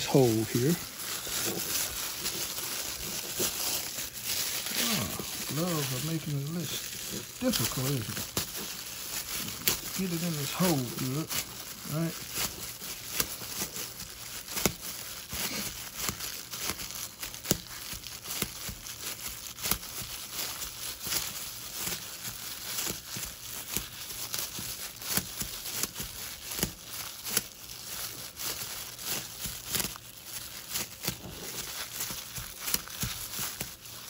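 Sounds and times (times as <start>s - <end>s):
plastic gloves crinkling: 0.0s - 34.0s.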